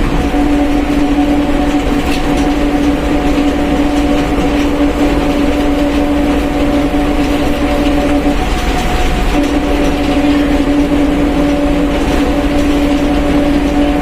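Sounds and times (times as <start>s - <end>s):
bus running: 0.0s - 14.0s
differential whine: 0.0s - 14.0s.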